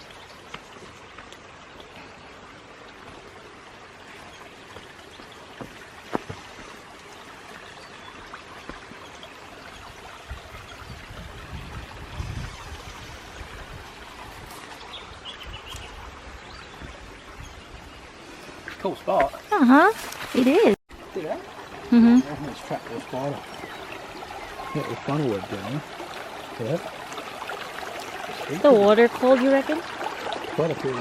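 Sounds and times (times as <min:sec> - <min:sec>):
waterfall and creek running: 0:00.0 - 0:31.0.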